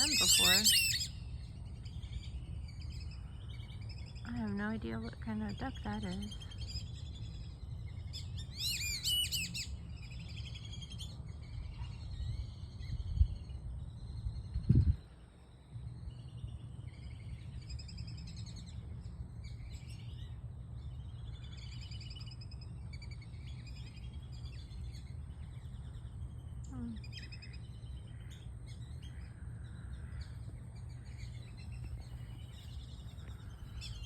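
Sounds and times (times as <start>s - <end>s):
birds chirping: 0.0s - 34.0s
steady low rumble: 0.0s - 34.0s.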